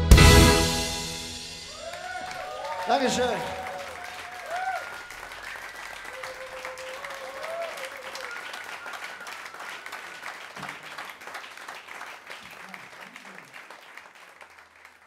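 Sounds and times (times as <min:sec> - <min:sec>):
audience applauding: 0:01.6 - 0:15.0.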